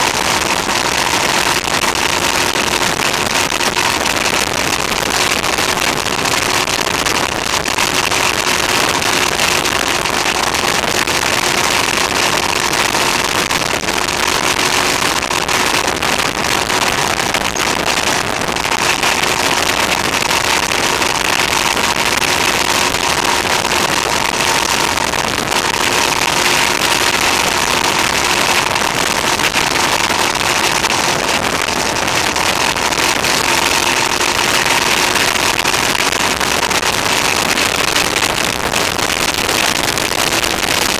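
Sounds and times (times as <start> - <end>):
motorcycle engine drone: 0.0 - 40.9.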